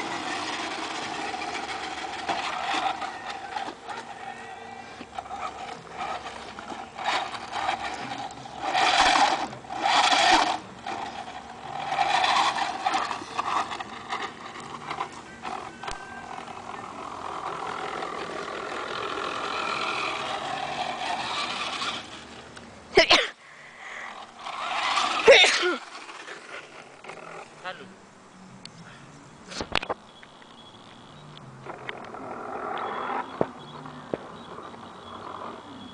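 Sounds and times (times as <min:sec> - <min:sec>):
toy car electric motor whining: 0:00.0 - 0:22.5, 0:23.8 - 0:27.7, 0:31.6 - 0:35.9.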